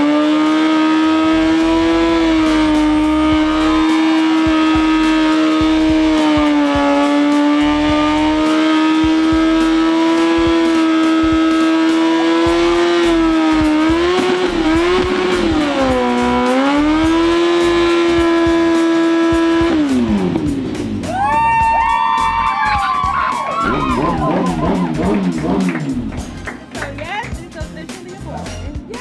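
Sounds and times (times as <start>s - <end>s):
motorcycle engine revving: 0.0s - 21.1s, 23.6s - 27.8s.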